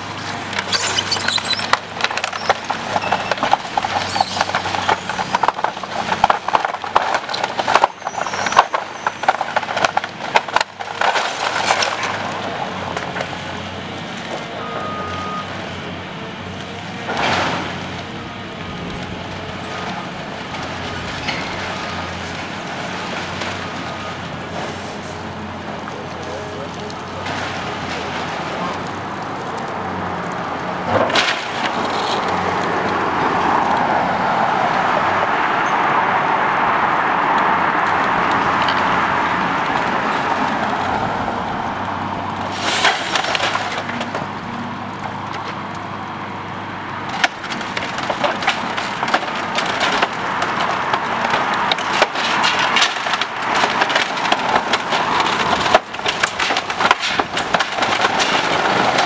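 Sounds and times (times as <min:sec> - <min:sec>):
timbers cracking and splintering: 0:00.0 - 0:15.9, 0:16.5 - 0:35.4, 0:36.6 - 0:46.2, 0:47.0 - 0:59.0
demolition machine running: 0:00.0 - 0:34.9, 0:37.8 - 0:59.0.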